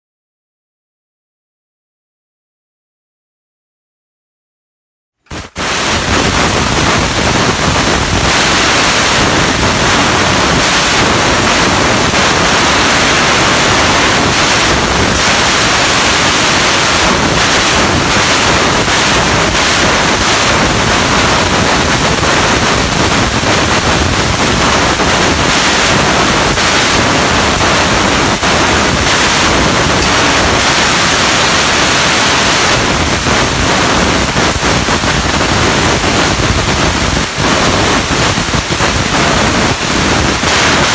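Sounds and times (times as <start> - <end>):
laser cutter gas jet hissing: 5.3 - 40.9.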